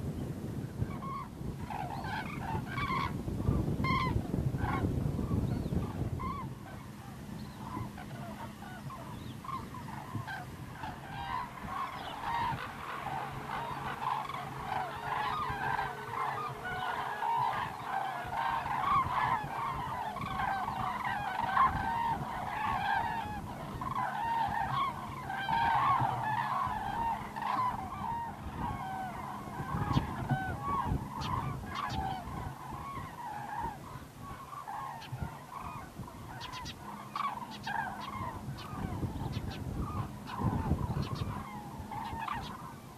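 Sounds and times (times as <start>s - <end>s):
flock of cranes calling: 0.0s - 42.9s.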